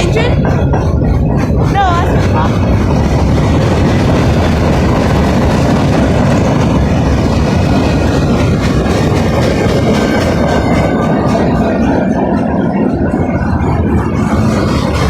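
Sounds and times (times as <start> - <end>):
freight cars rumbling on rails: 0.0 - 15.0
wheels clicking over rail joints: 0.0 - 15.0.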